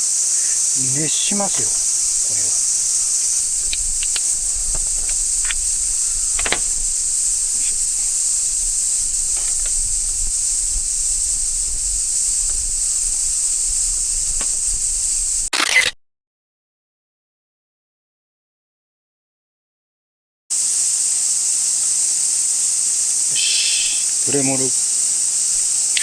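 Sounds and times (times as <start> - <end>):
cicadas droning: 0.0 - 15.5, 20.5 - 26.0.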